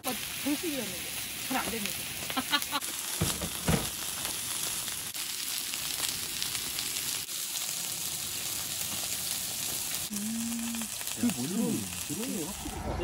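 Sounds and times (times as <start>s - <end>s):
meat sizzling on a griddle: 0.0s - 12.8s.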